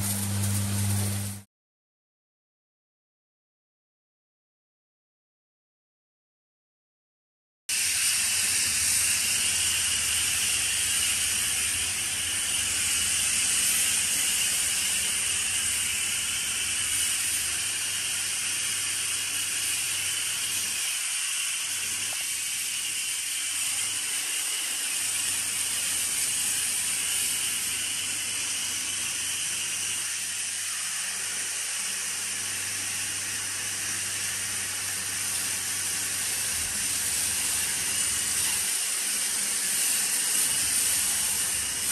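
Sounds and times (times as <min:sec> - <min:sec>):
pressure washer spray hiss: 0:00.0 - 0:01.4, 0:07.7 - 0:41.9.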